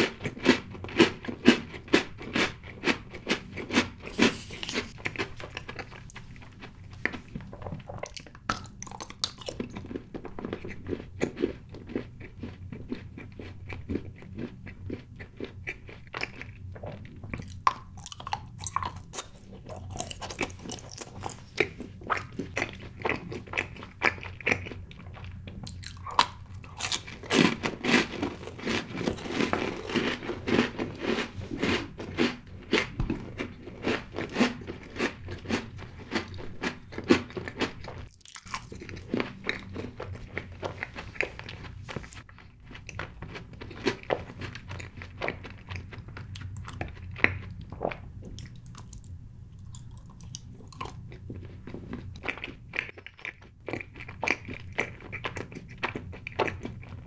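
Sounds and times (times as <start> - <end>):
chewing with wet mouth clicks: 0.2 - 30.6, 32.7 - 57.0.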